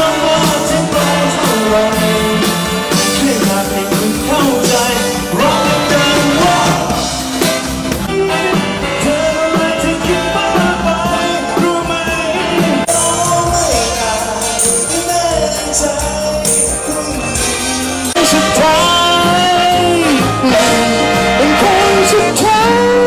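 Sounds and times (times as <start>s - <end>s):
live band playing pop: 0.0s - 23.0s
person singing: 0.0s - 23.0s.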